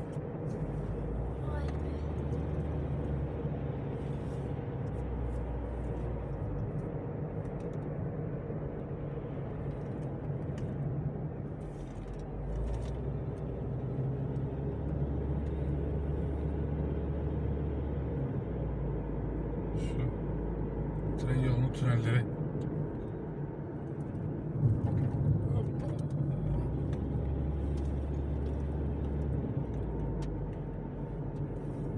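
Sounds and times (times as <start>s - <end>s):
car engine and tyre drone: 0.0s - 31.9s.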